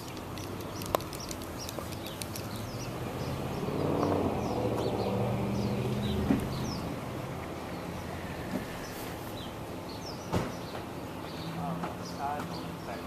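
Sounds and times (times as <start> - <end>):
small birds chirping: 0.0 - 13.0
vehicle engine hum: 0.0 - 13.0.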